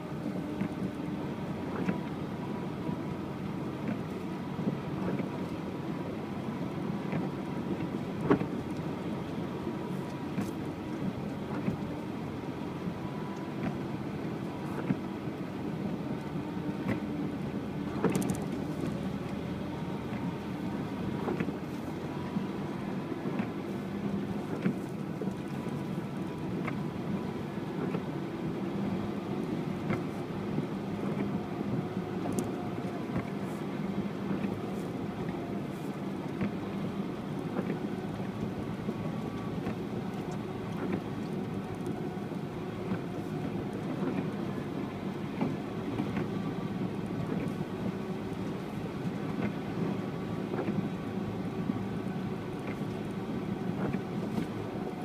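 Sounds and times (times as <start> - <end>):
off-road vehicle engine droning: 0.0 - 55.0.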